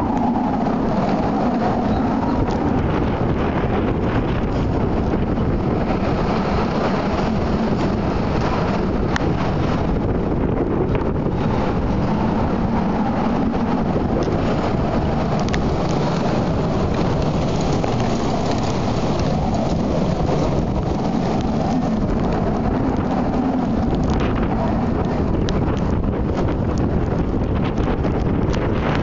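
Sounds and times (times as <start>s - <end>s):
rain: 0.0s - 29.0s
storm wind blowing: 0.0s - 29.0s
wind buffeting microphone: 0.0s - 29.0s.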